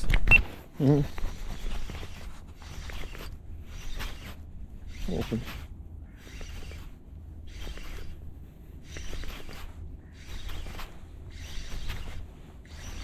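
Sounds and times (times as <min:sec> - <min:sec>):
fishing reel cranking: 0:01.3 - 0:13.0.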